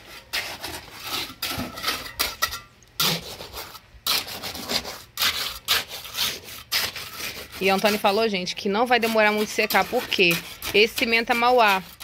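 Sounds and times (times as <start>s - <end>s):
trowel scraping wet concrete: 0.0s - 12.0s.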